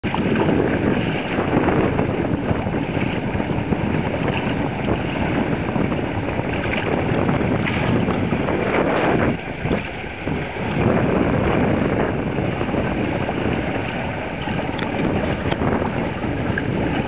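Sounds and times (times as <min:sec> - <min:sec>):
water splashing past bow: 0:00.0 - 0:17.0
wind buffeting microphone: 0:00.0 - 0:17.0.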